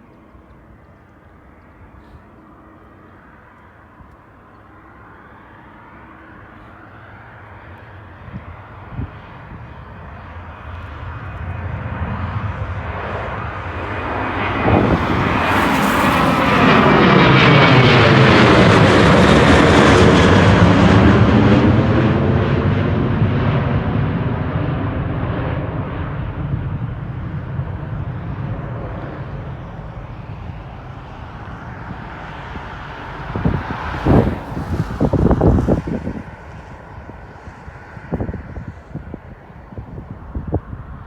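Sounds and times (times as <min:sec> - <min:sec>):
jet airliner passing: 0:00.0 - 0:41.0
wind buffeting microphone: 0:07.4 - 0:41.0.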